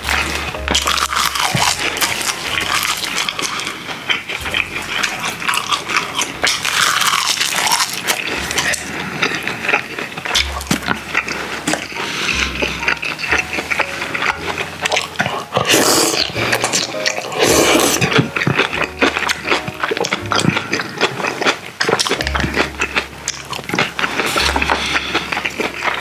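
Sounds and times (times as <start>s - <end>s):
person chewing food: 0.0s - 26.0s
slurping stew: 0.0s - 26.0s.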